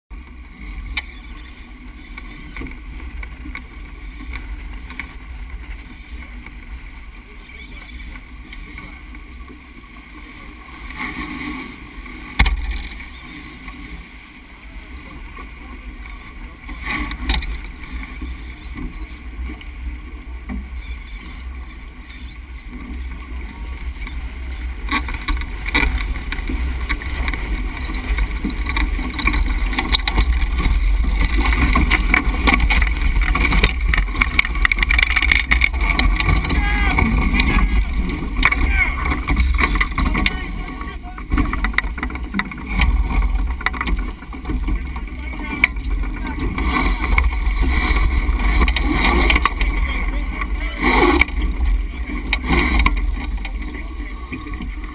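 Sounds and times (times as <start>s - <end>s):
water rushing: 0.1s - 54.9s
wind buffeting microphone: 0.4s - 54.9s.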